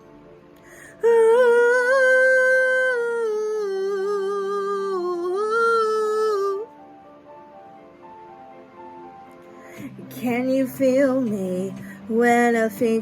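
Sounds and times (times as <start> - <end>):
soft keyboard chords: 0.0 - 13.0.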